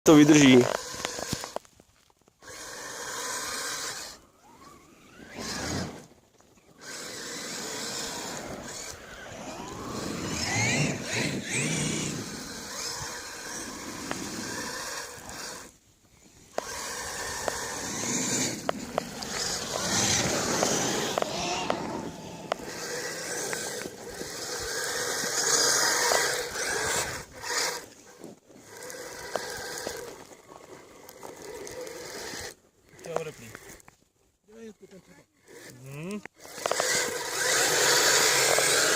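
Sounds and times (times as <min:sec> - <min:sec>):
electric motor whining: 0:00.1 - 0:01.7, 0:02.4 - 0:33.9, 0:35.4 - 0:38.9.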